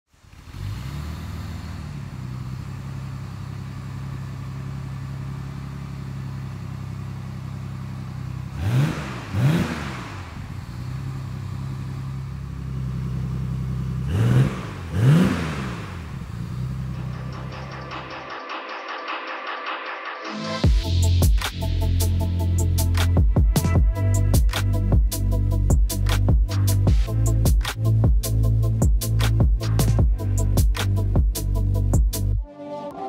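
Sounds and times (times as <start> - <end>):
car engine idling and revving: 0.1 - 32.4.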